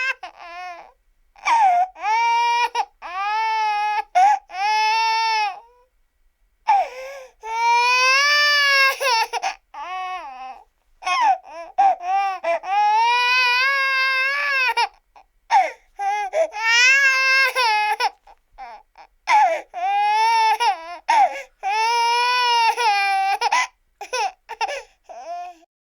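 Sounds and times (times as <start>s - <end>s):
infant crying: 0.0s - 5.9s, 6.7s - 25.7s.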